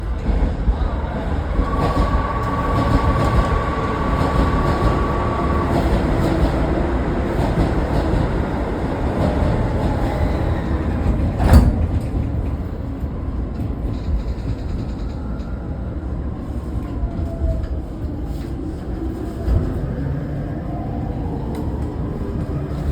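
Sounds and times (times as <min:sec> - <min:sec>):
train wheels rumbling on rail: 0:00.0 - 0:22.9.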